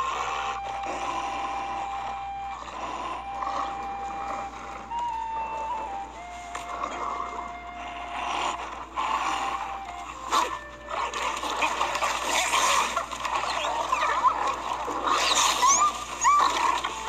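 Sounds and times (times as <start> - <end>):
wolves yelping and whimpering: 0.0 - 17.0.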